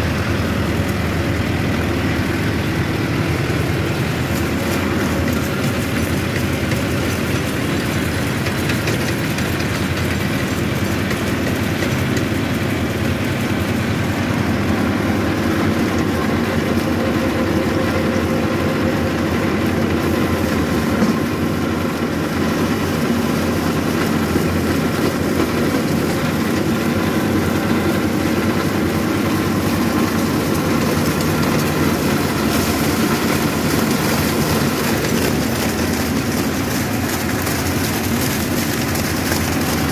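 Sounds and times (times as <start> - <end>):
rotavator churning soil: 0.0 - 39.9
tractor diesel engine running: 0.0 - 39.9.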